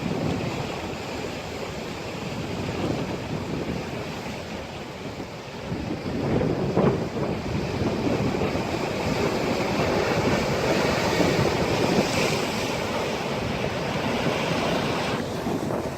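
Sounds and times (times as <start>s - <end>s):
surf washing over rocks: 0.0s - 15.9s
wind buffeting microphone: 0.0s - 15.9s.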